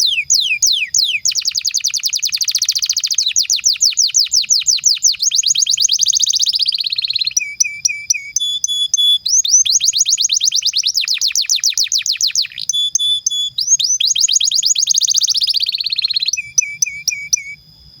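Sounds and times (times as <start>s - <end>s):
canary singing trills: 0.0s - 17.7s.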